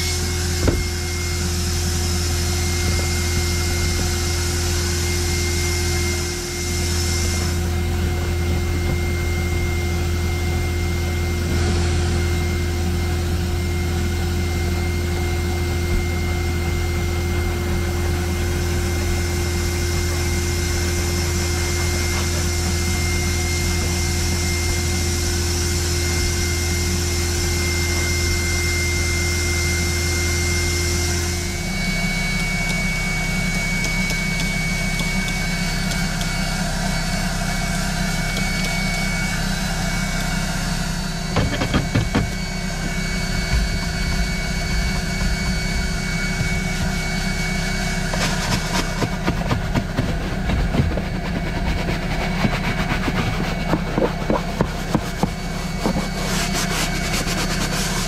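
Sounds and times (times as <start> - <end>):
vacuum motor humming: 0.0 - 58.0.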